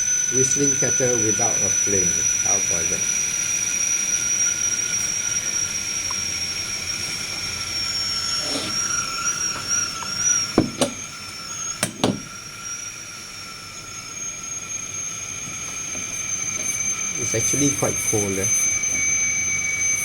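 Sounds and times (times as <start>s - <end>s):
kettle whistling: 0.0s - 20.0s.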